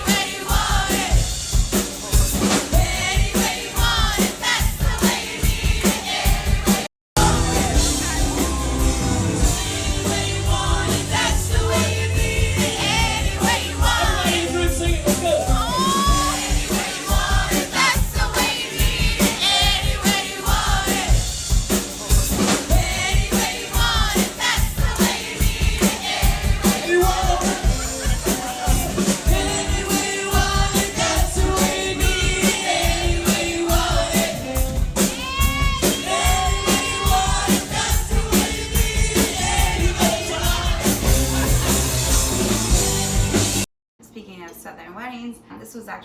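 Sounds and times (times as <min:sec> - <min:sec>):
lead vocal singing: 0:00.0 - 0:41.8
steady drum beat: 0:00.0 - 0:43.7.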